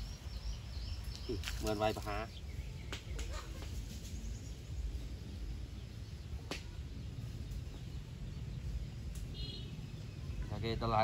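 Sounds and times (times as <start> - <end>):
low rumbling outdoor noise: 0.0 - 11.0.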